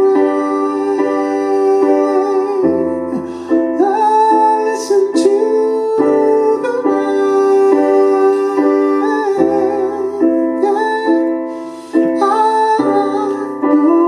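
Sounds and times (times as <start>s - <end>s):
man singing: 0.0s - 14.0s
piano chords: 0.0s - 14.0s.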